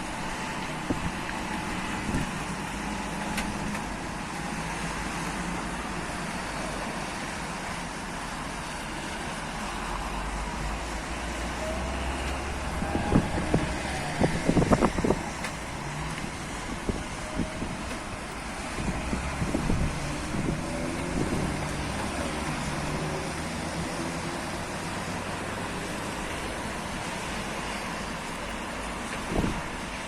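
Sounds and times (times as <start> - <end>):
rain hissing: 0.0 - 30.0
road traffic rumble: 0.0 - 30.0.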